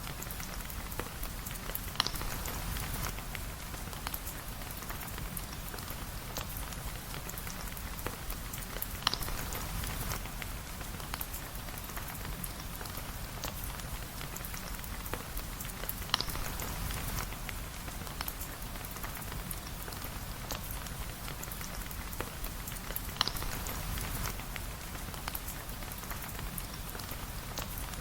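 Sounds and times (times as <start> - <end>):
steady rain falling: 0.0 - 28.0
drips and small ticks: 0.1 - 28.0.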